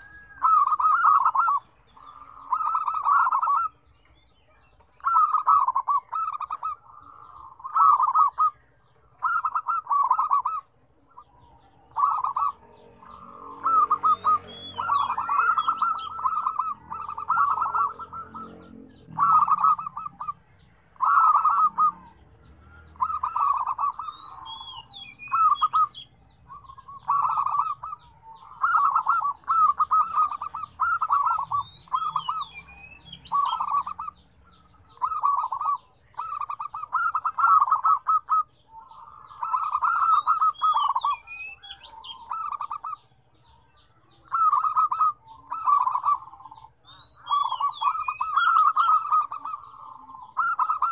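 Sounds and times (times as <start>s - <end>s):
doves cooing: 0.0s - 50.9s
high-pitched bird chirps: 0.0s - 50.9s.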